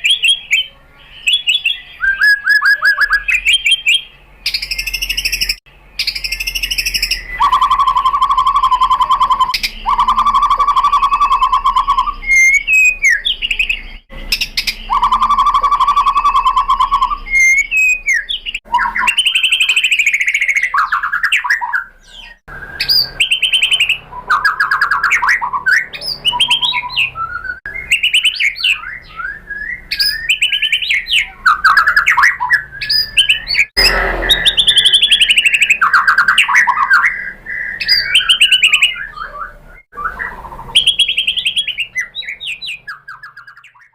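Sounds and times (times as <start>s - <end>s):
songbird singing trills and whistles: 0.0s - 43.9s.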